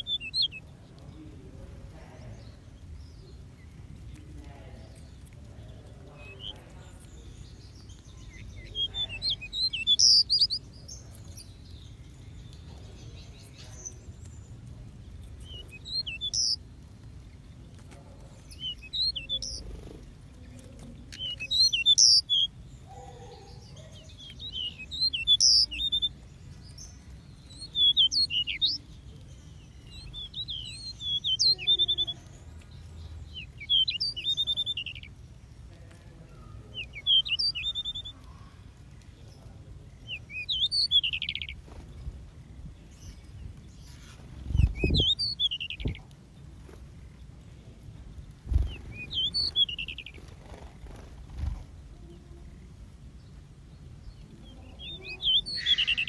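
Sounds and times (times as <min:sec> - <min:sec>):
low background hum: 0:00.0 - 0:56.0
small birds chirping: 0:00.0 - 0:56.0.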